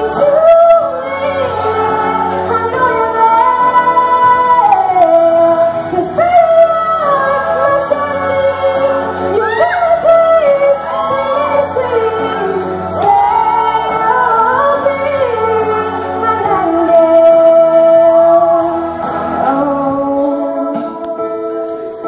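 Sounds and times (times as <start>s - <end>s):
musical accompaniment chords: 0.0s - 22.0s
woman singing: 0.0s - 22.0s.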